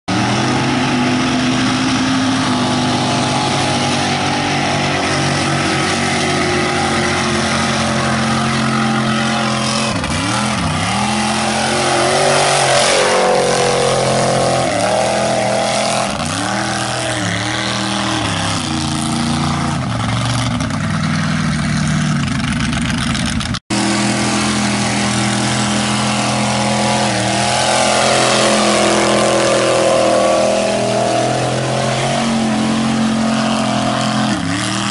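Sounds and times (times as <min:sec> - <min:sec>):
truck engine revving high: 0:00.1 - 0:22.4, 0:23.7 - 0:34.9
tires spinning and throwing dirt: 0:00.1 - 0:34.9.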